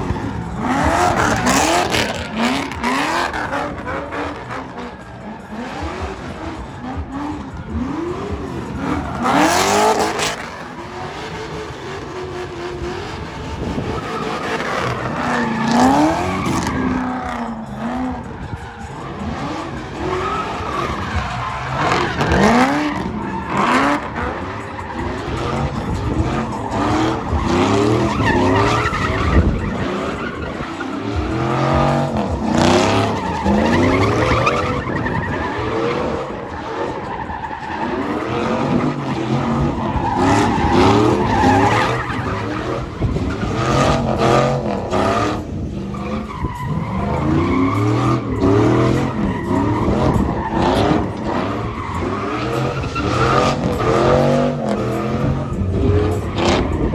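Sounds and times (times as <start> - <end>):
car engines revving: 0.0 - 56.9
tires squealing: 0.0 - 56.9.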